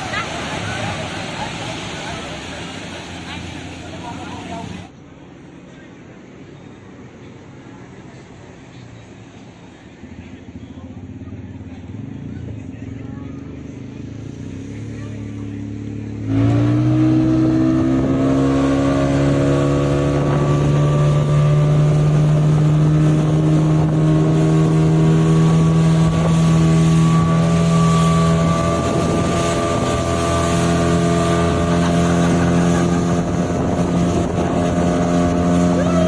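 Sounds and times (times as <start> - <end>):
motorboat engine running: 0.0 - 4.9, 10.9 - 36.0.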